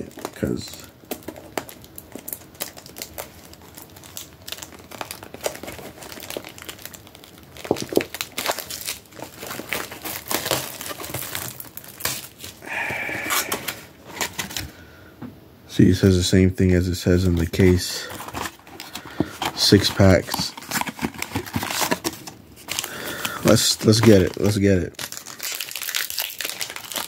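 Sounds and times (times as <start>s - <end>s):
plastic shrink-wrap tearing and crinkling: 0.0s - 14.6s, 17.3s - 27.0s.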